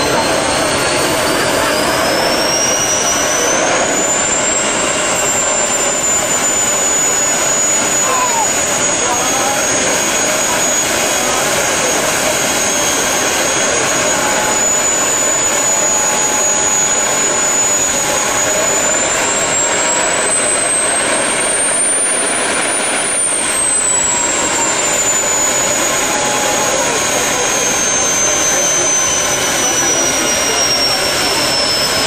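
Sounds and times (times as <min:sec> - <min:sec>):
jet turbine engine roaring: 0:00.0 - 0:32.0.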